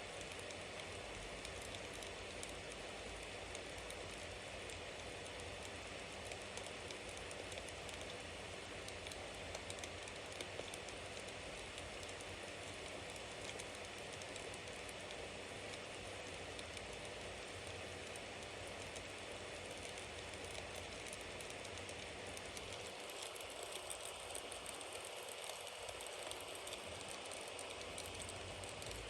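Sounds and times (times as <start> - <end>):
fire crackling and popping: 0.2 - 29.0.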